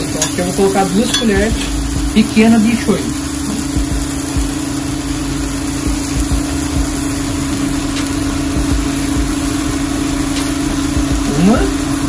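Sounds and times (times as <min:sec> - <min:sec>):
onions sizzling in frying pan: 0:00.0 - 0:12.0
steady low hum: 0:00.0 - 0:12.0.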